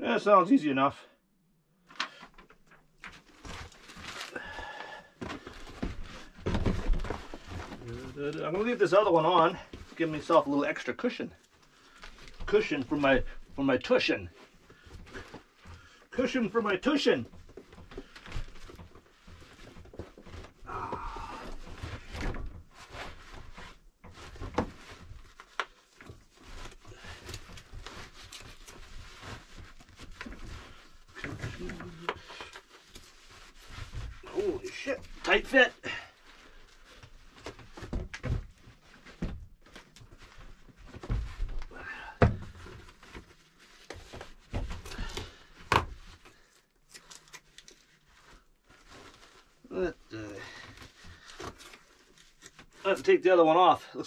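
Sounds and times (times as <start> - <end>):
cloth rustling and scuffing: 2.6 - 13.6, 14.3 - 46.8, 47.6 - 49.7.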